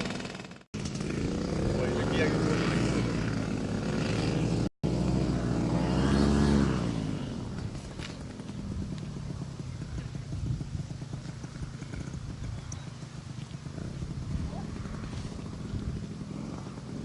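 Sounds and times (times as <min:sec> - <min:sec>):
paramotor engine and propeller droning: 0:00.0 - 0:17.0
wind: 0:00.0 - 0:17.0.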